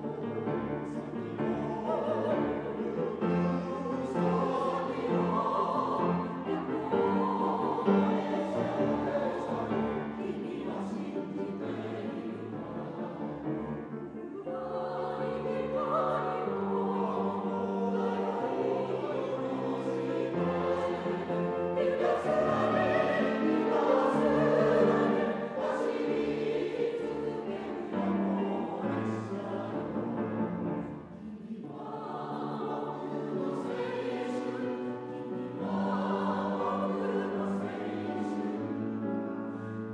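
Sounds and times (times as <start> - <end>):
grand piano: 0.0 - 39.9
mixed choir singing: 0.0 - 39.9.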